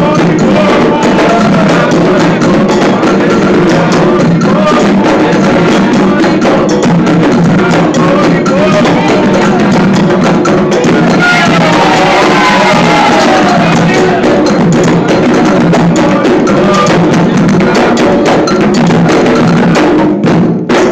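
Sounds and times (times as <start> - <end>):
group of voices singing: 0.0 - 20.2
struck bell: 0.0 - 20.2
hand drums: 0.0 - 20.9.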